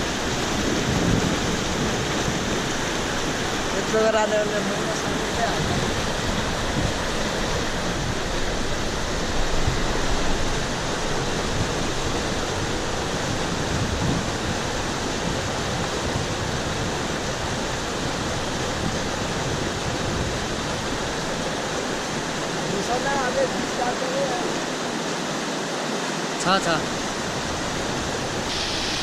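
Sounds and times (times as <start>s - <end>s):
mountain stream rushing: 0.0s - 29.0s.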